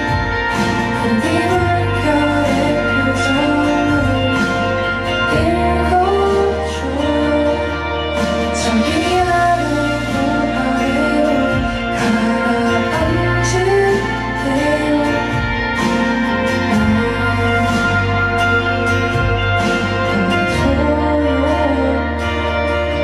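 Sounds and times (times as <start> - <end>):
instrumental accompaniment: 0.0 - 23.0
woman singing pop song: 0.0 - 23.0.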